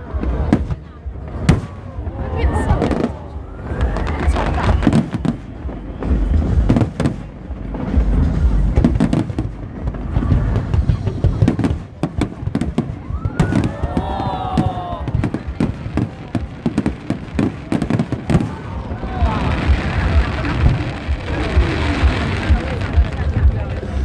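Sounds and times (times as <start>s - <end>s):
deep rumble: 0.0s - 24.0s
fireworks bangs and crackles: 0.0s - 24.0s.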